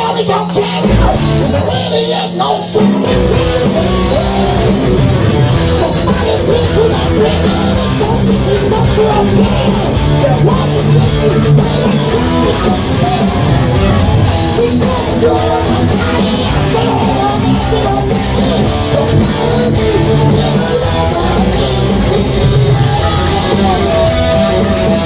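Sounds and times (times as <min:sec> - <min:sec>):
bass guitar: 0:00.0 - 0:25.0
drums: 0:00.0 - 0:25.0
electric guitar lead lines: 0:00.0 - 0:25.0.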